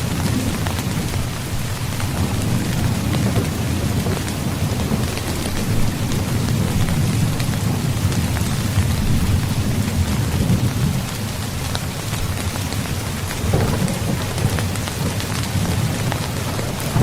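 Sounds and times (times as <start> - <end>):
distant thunder rumbling: 0.0 - 17.0
heavy rain falling: 0.0 - 17.0.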